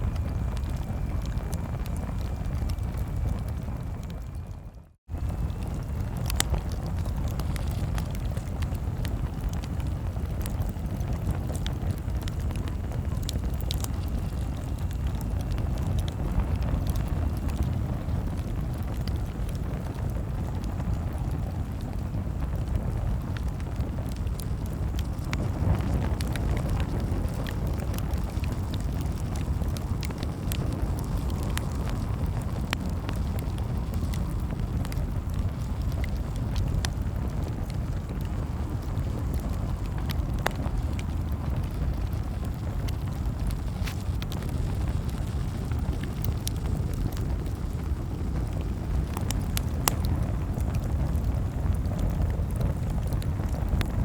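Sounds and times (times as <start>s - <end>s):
campfire crackling: 0.0s - 54.0s
low rumble of burning: 0.0s - 54.0s.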